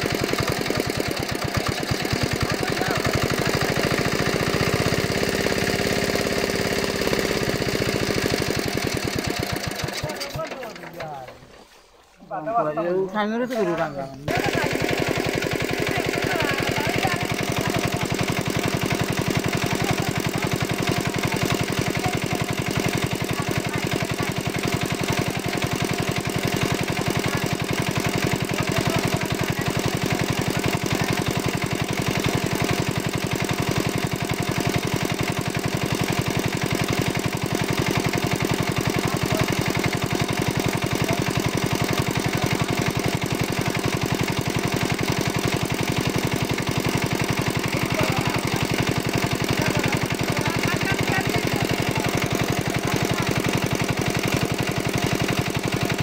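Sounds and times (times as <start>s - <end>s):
small engine water pump chugging: 0.0s - 12.0s, 14.3s - 56.0s.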